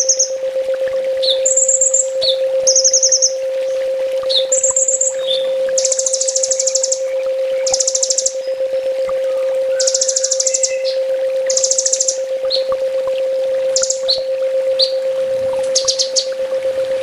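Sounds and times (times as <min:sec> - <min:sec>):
bird singing buzzy trills: 0:00.0 - 0:17.0
steady low hum: 0:00.0 - 0:17.0.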